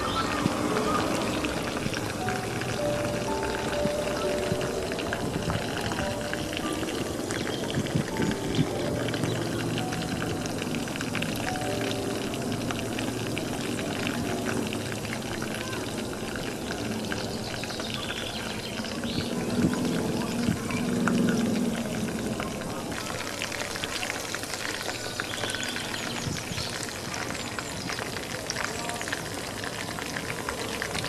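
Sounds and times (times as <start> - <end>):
chicken deep-frying in hot oil: 0.0 - 31.0.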